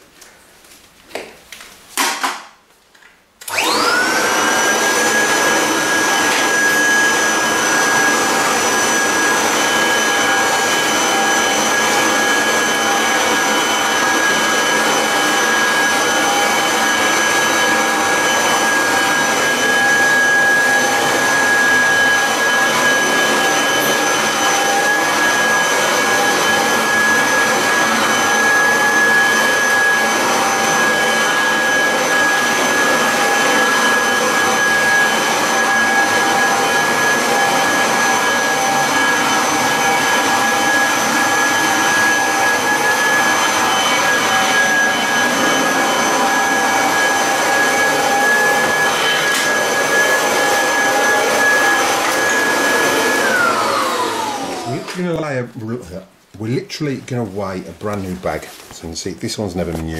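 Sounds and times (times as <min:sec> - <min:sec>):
vacuum cleaner motor whining: 0:03.4 - 0:55.4.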